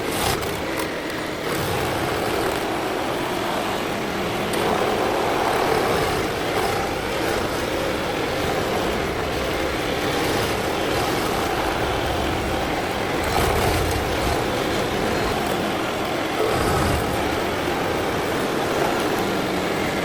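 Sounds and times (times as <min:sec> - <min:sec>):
stump grinder grinding: 0:00.0 - 0:20.0.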